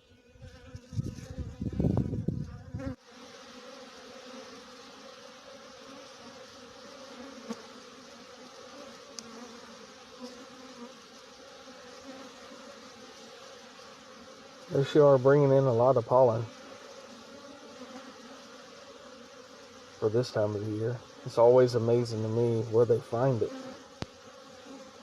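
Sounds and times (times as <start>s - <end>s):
honeybees humming: 0.0s - 25.0s.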